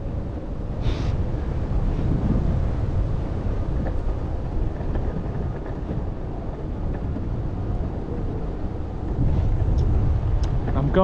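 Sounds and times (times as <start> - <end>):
skateboard wheels rolling on asphalt: 0.0 - 11.0
wind buffeting microphone: 0.0 - 11.0.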